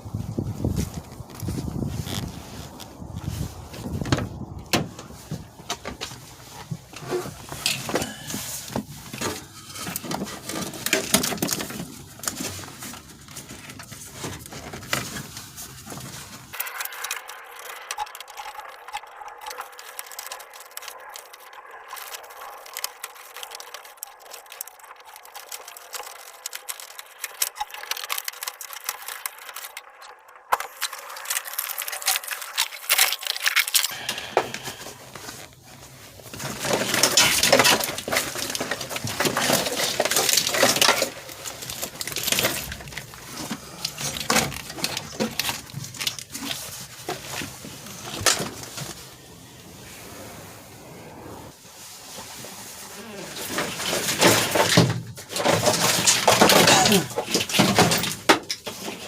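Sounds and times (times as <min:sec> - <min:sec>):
rustling and scraping: 0:00.0 - 0:59.0
tools and metal parts clinking: 0:05.0 - 0:35.5, 0:36.2 - 0:49.0, 0:53.4 - 0:59.0.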